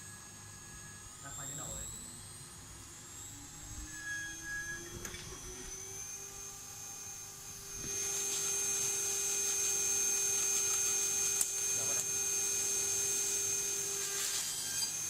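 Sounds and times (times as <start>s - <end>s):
spindle motor whine: 0.0s - 15.0s.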